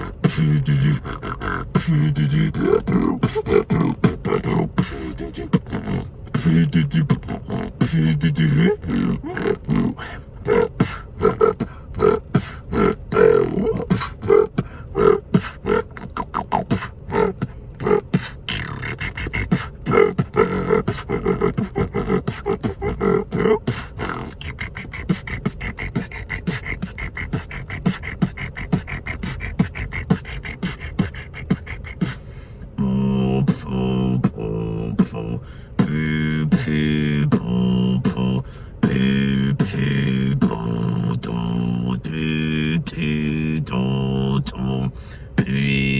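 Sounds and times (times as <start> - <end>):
hummed bass tones: 0.0 - 45.9
person beatboxing: 0.0 - 45.9.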